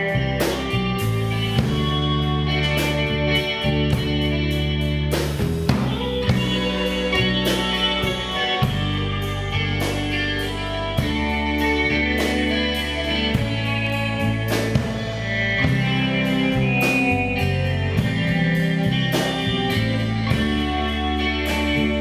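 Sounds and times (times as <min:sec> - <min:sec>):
bass notes: 0:00.0 - 0:22.0
electric guitars: 0:00.0 - 0:22.0
steady drum beat: 0:00.0 - 0:22.0.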